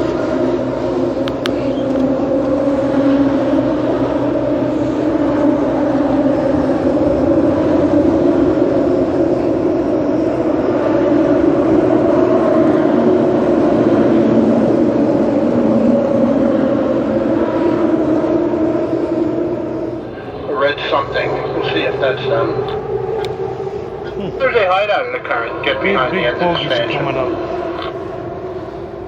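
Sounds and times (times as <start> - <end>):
boat engines droning: 0.0 - 29.0.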